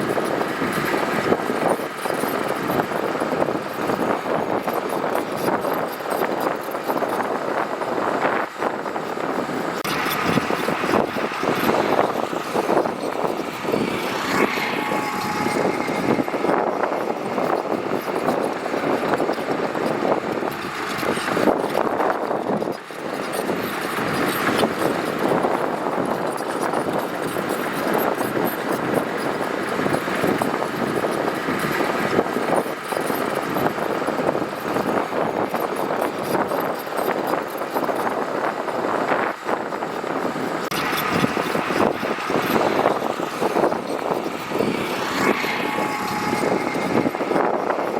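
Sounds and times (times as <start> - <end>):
diesel machinery running: 0.0 - 47.9
gravel crunching and rattling: 0.0 - 47.9.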